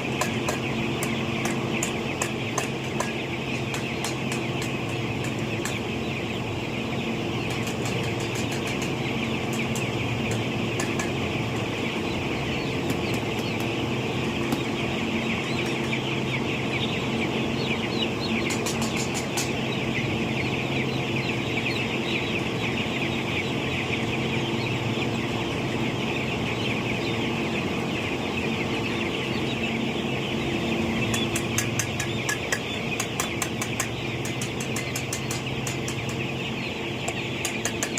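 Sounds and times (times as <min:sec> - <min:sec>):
chickens chirping and clucking: 0:00.0 - 0:37.9
steady low hum: 0:00.0 - 0:37.9.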